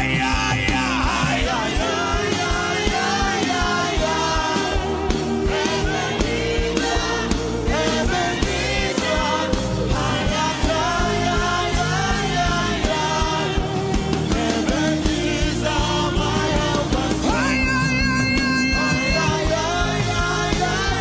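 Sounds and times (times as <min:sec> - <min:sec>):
gospel singing over a band: 0:00.0 - 0:21.0
steady drum beat: 0:00.0 - 0:21.0.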